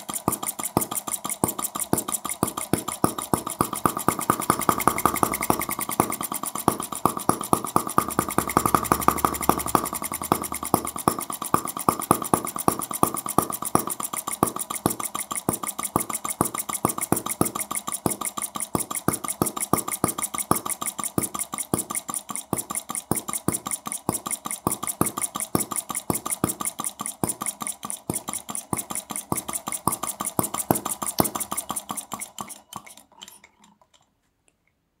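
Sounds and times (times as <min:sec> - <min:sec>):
small engine firing clicks: 0:00.0 - 0:34.2.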